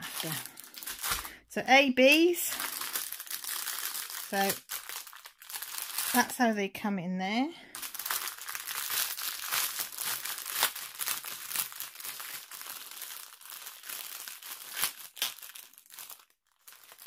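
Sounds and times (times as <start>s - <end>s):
plastic bags crinkling: 0.0s - 6.5s, 7.7s - 17.0s.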